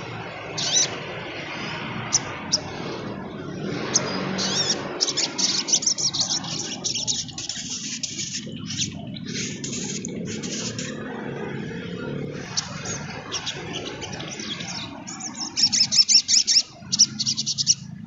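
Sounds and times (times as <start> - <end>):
sunbird singing: 0.0 - 18.0.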